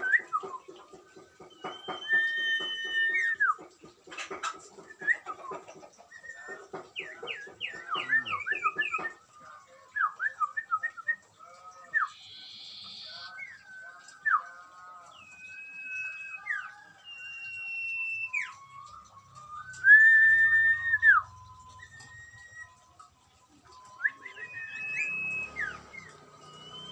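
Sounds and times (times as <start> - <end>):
bird whistled notes: 0.0 - 3.7, 4.7 - 26.9
songbirds chirping: 0.0 - 26.9.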